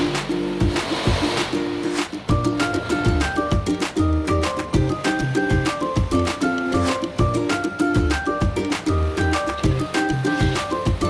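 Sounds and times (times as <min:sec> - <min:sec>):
bass: 0:00.0 - 0:11.0
held melody notes: 0:00.0 - 0:11.0
latin-style drums: 0:00.0 - 0:11.0.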